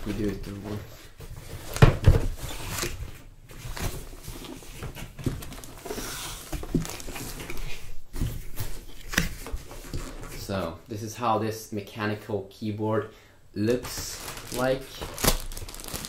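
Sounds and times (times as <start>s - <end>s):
cardboard packaging rustling: 0.0s - 10.8s, 13.8s - 16.0s.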